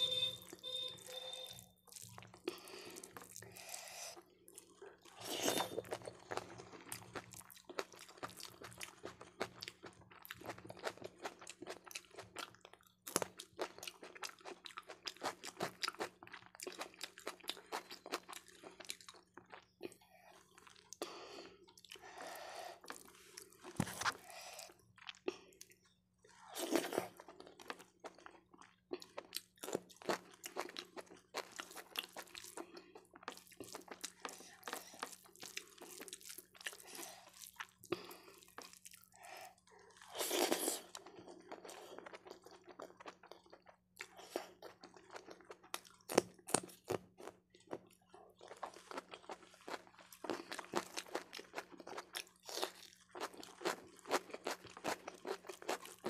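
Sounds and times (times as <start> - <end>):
close chewing and biting: 0.5 - 56.0.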